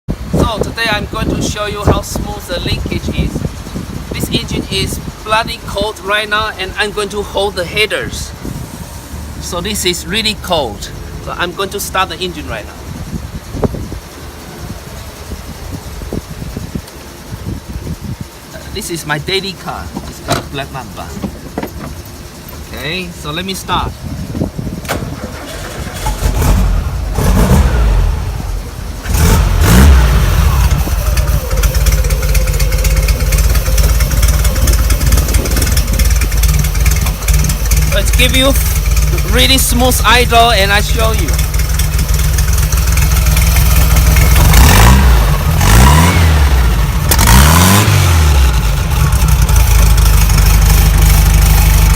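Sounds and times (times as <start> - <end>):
car engine starting and running unevenly: 0.1 - 51.9.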